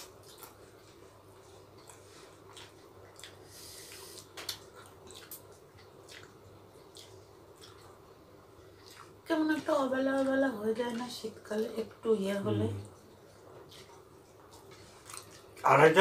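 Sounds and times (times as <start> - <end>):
mouths chewing: 0.0 - 12.1, 12.8 - 16.0.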